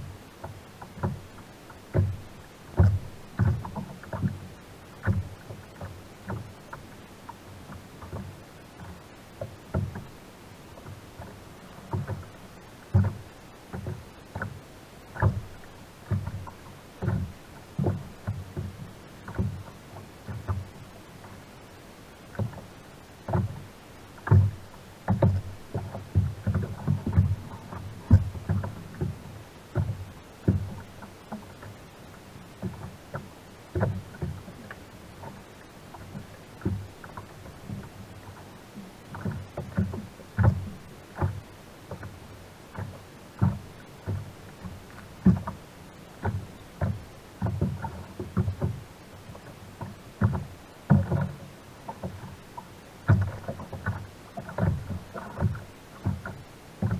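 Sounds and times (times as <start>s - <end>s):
low water wash: 0.0s - 56.9s
waves slapping kayak hull: 0.0s - 56.9s.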